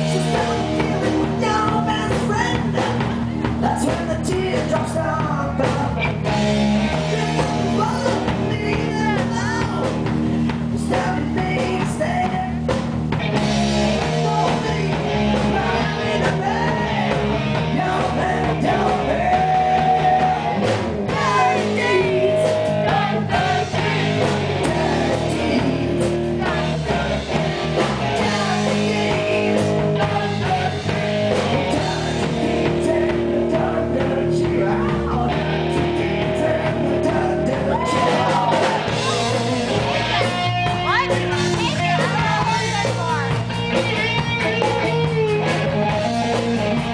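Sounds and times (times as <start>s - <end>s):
male singer: 0.0s - 6.2s, 6.9s - 10.0s, 10.8s - 12.8s, 14.0s - 23.8s, 24.6s - 27.3s, 28.2s - 31.0s, 31.6s - 43.4s
live rock band playing: 0.0s - 46.9s.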